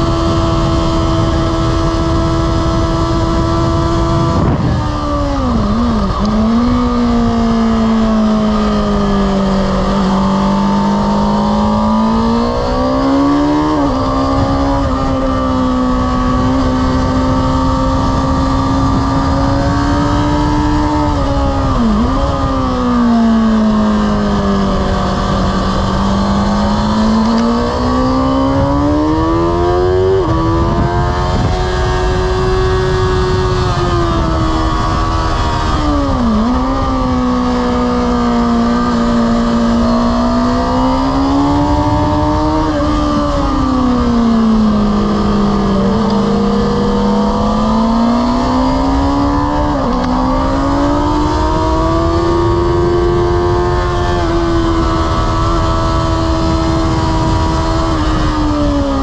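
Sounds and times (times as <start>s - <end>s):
motorcycle engine revving: 0.0s - 59.0s
wind and road rush: 0.0s - 59.0s.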